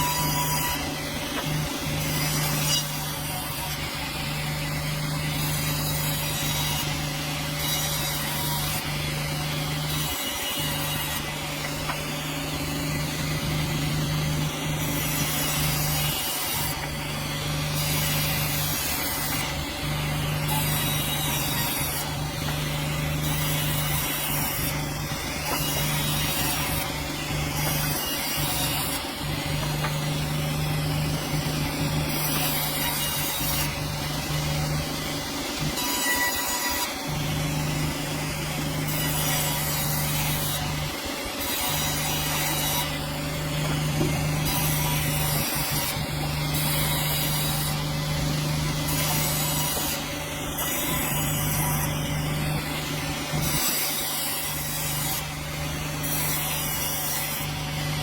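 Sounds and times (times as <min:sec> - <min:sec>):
saw cutting through log: 0:00.0 - 0:58.0
sawmill machine hum: 0:00.0 - 0:58.0.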